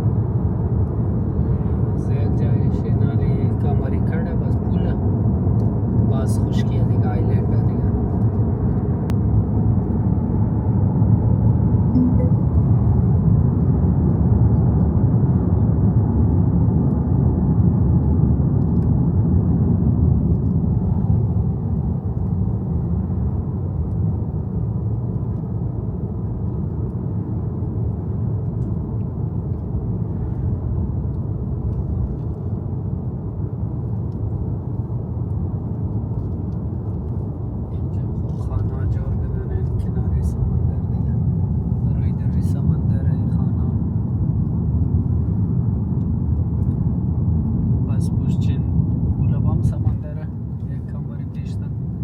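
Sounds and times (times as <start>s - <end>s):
car road and engine rumble: 0.0s - 52.0s.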